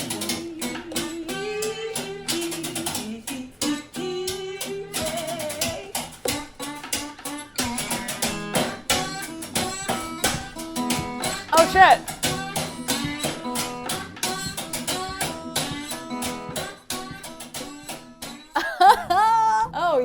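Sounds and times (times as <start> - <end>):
strummed guitar with melody: 0.0 - 20.0.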